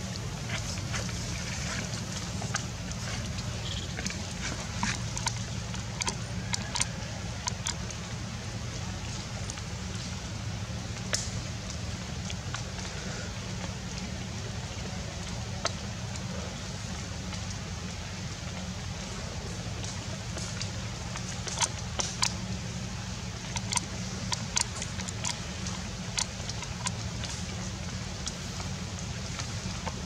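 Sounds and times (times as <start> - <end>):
water dripping: 0.0 - 30.0.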